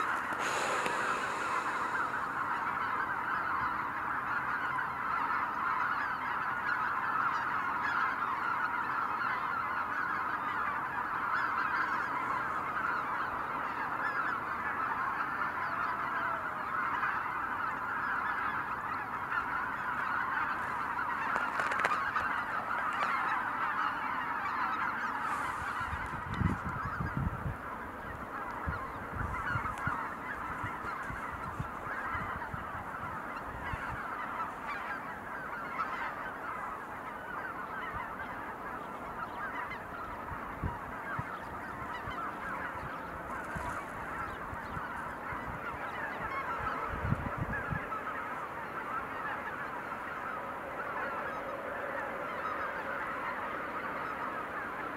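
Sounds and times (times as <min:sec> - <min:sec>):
geese honking: 0:00.0 - 0:54.9.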